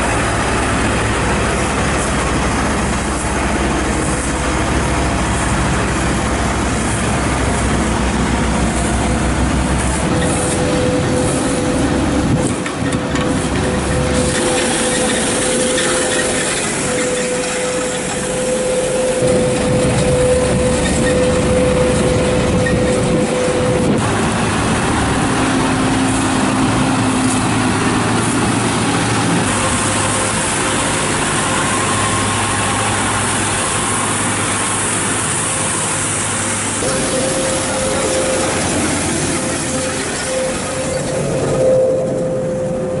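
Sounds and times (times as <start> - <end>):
road sweeper brush whine: 0.0 - 43.0
truck engine running: 0.0 - 43.0
vehicle engines running: 0.0 - 43.0.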